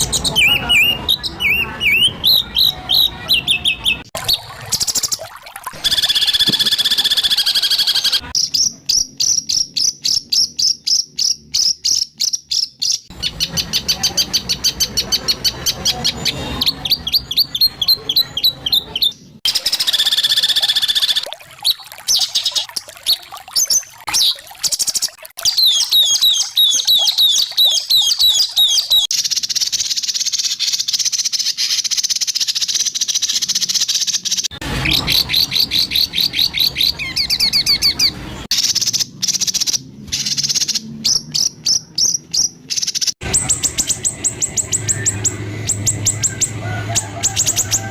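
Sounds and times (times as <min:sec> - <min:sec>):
bird singing harsh rapid notes: 0:00.0 - 0:05.1, 0:05.8 - 0:46.6.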